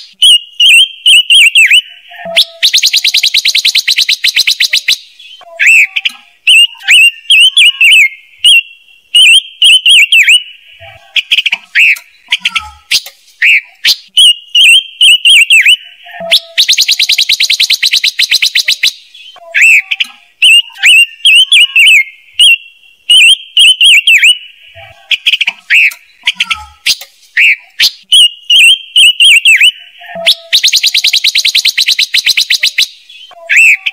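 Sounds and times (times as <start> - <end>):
bird chirps and trill: 0.0 - 33.9.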